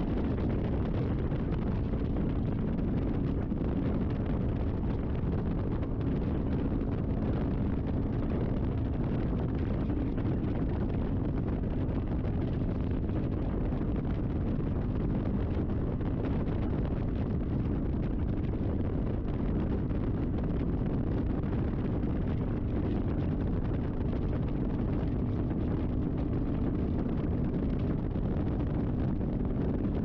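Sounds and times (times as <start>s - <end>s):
motorcycle engine drone: 0.0s - 30.0s
wind rumble on microphone: 0.0s - 30.0s.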